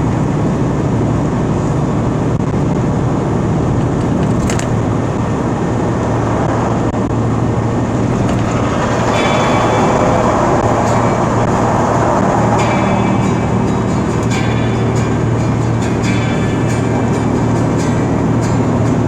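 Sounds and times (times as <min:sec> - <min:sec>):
vehicle engine hum: 0:00.0 - 0:19.0
tyre and road noise: 0:00.1 - 0:19.0.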